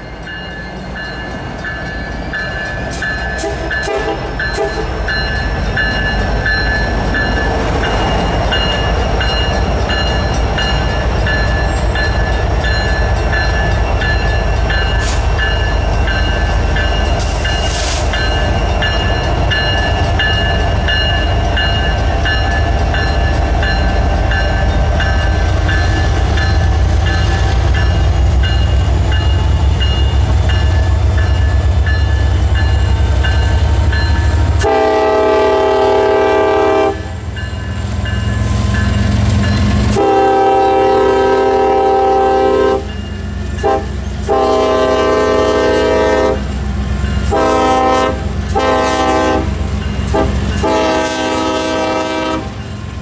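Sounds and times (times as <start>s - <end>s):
crossing bell dinging: 0.0s - 53.0s
diesel train rumbling past: 0.0s - 53.0s.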